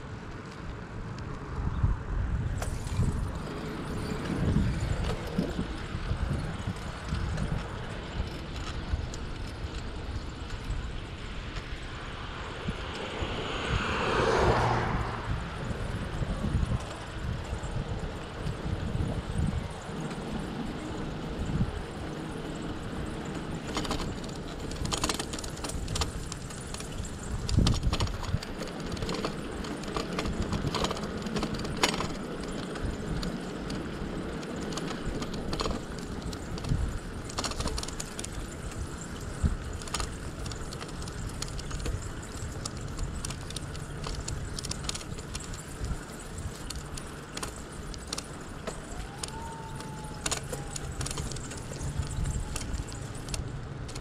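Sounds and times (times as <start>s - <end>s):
bicycle rattling and clicking: 0.0s - 54.0s
wind noise: 1.0s - 54.0s
tyre noise: 2.4s - 54.0s.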